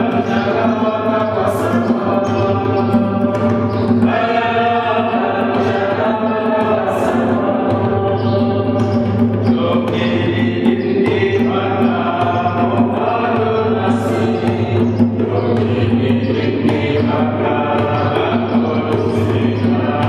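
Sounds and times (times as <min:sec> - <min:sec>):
choir singing a chant: 0:00.0 - 0:20.0.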